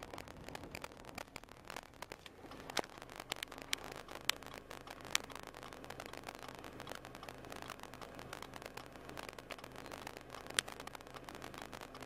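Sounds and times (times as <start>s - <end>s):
crackling with sharp clicks: 0.0s - 12.0s.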